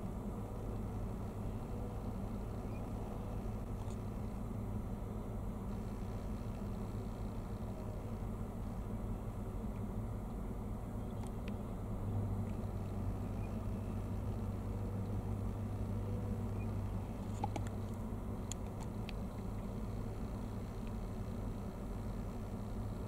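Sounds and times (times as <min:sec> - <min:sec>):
low hum and rumble: 0:00.0 - 0:23.0.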